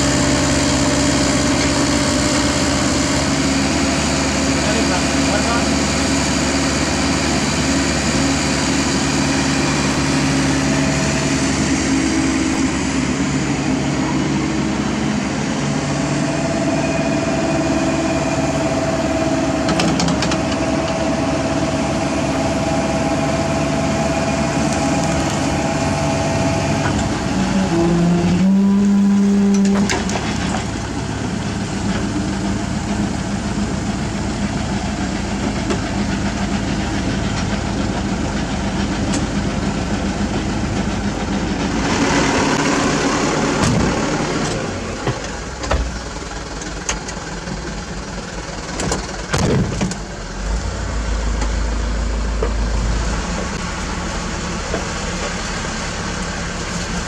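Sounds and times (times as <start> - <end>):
diesel excavator engine running: 0.0 - 57.0.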